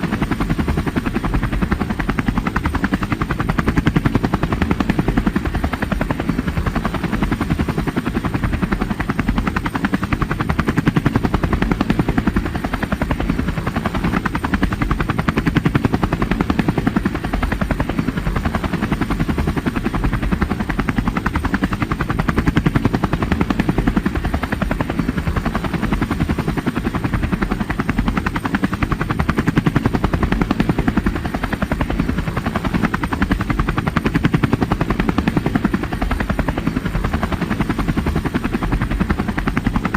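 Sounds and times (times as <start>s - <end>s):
helicopter engine drone: 0.0s - 39.9s
helicopter rotor chopping: 0.0s - 39.9s.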